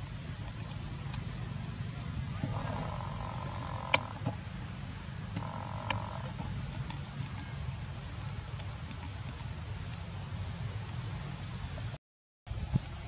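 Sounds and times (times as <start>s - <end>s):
steady high whine: 0.0s - 12.0s.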